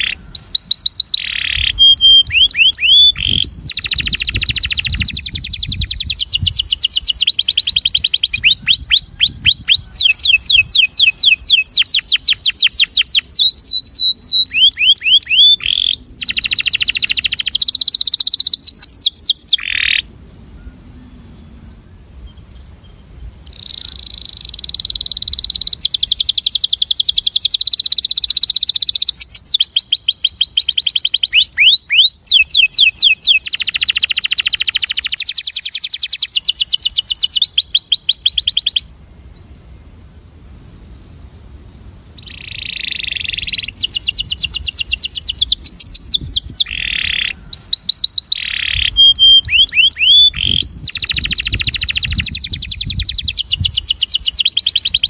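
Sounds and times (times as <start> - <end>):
canary singing trills: 0.0 - 21.0, 23.2 - 38.9, 42.1 - 55.0.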